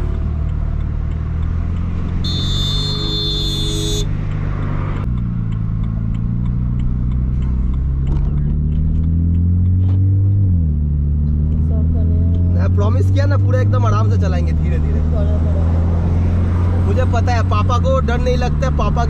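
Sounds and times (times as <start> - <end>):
car engine and exhaust: 0.0 - 19.0.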